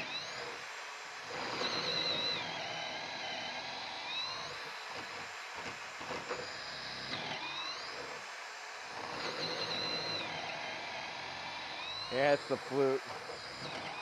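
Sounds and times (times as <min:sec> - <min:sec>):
cordless drill boring through wood: 0:00.0 - 0:14.0.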